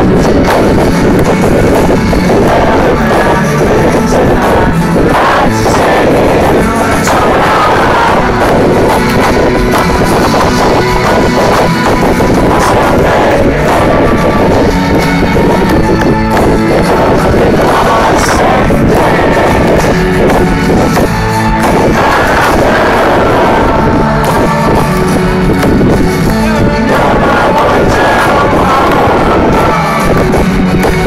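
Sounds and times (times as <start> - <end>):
live band playing loudly: 0.0 - 31.0
person singing: 0.0 - 31.0.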